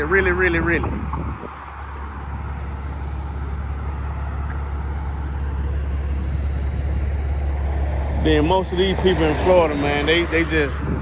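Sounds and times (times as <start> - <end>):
expressway traffic rumble: 0.0 - 11.0.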